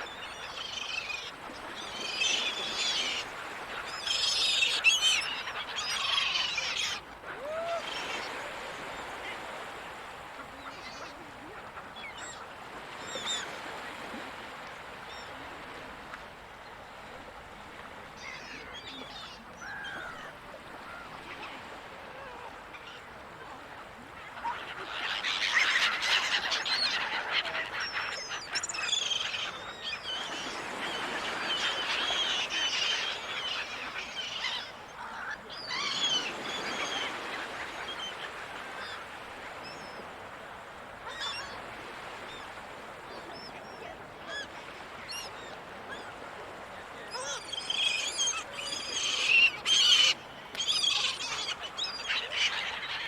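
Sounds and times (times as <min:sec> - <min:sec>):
seagulls calling: 0:00.0 - 0:14.1, 0:18.2 - 0:23.3, 0:24.2 - 0:40.2, 0:41.0 - 0:53.0.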